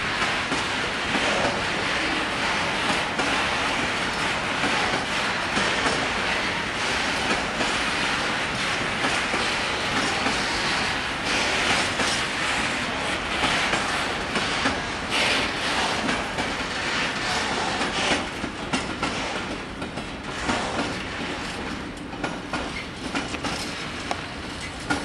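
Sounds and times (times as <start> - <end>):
train wheels clicking over rail joints: 0.0 - 25.0.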